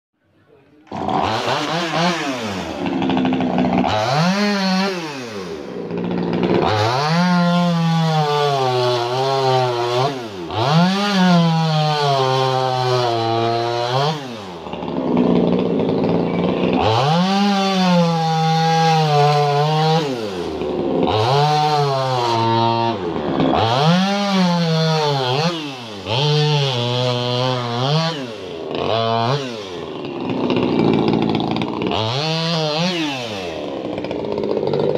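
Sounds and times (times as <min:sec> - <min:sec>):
chainsaw cutting bone: 0:00.9 - 0:34.9.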